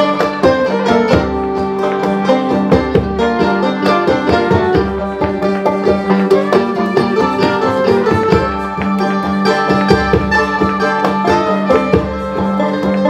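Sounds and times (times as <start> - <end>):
plucked-string notes: 0.0 - 13.0.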